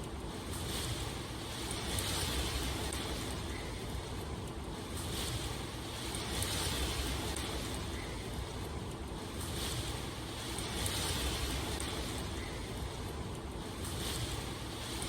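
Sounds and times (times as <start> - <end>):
steady rain: 0.0 - 15.0
wind: 0.0 - 15.0.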